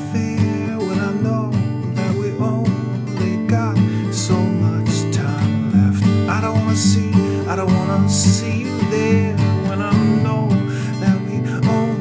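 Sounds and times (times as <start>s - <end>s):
strummed acoustic guitar music: 0.0s - 12.0s.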